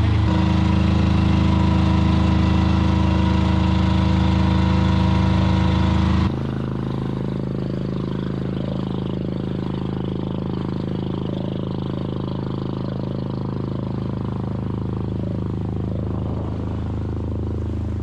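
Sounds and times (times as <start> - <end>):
boat engine droning: 0.0 - 18.0
wake wash: 0.0 - 18.0.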